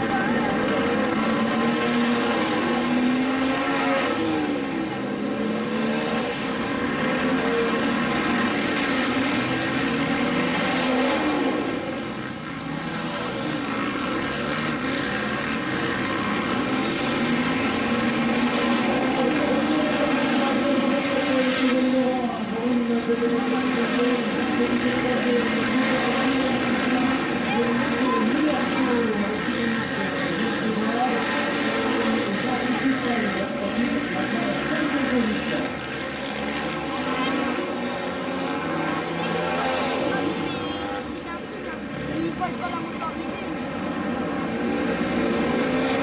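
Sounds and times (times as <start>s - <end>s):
motorcycles revving: 0.0s - 46.0s.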